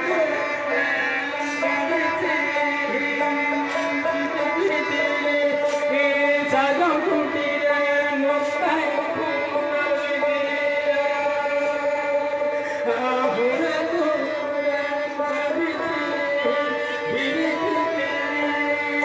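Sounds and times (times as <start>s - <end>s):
man singing through loudspeaker: 0.0s - 19.0s.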